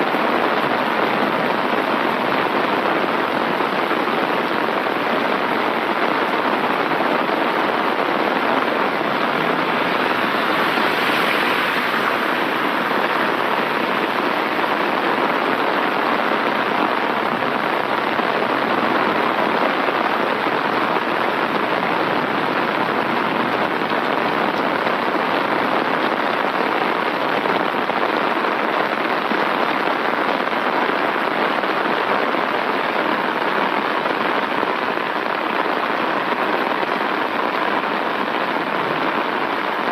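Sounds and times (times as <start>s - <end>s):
heavy rain on umbrella: 0.0s - 39.9s.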